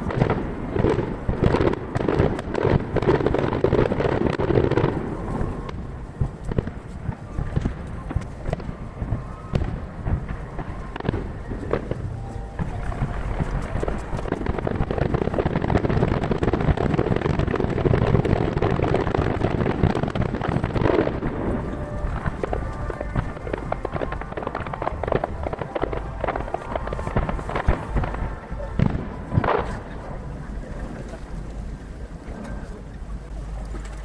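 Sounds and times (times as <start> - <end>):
continuous rumble: 0.0 - 34.0
distant fireworks bursting: 0.0 - 34.0.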